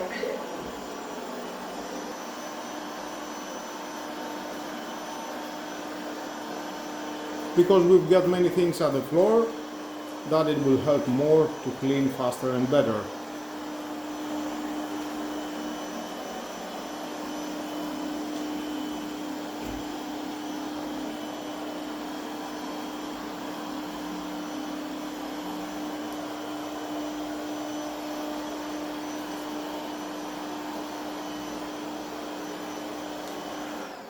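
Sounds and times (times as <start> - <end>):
robot vacuum whirring: 0.1 - 34.0.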